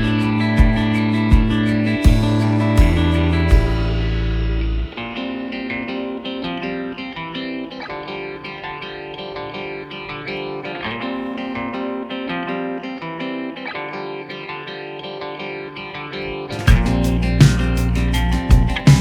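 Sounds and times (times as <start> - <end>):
guitar background music: 0.0 - 19.0.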